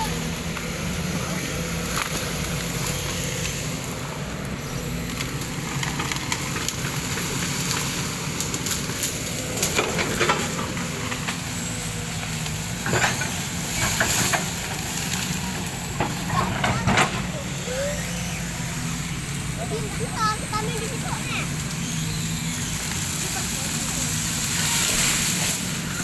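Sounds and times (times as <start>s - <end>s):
heavy machine engine running: 0.0s - 26.0s
palm trunk crackling and snapping: 0.1s - 17.3s, 21.5s - 26.0s.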